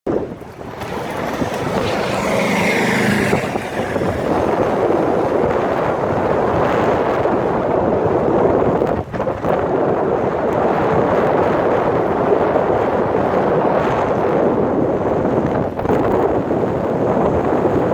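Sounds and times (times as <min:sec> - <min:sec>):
wind buffeting microphone: 0:00.1 - 0:17.9.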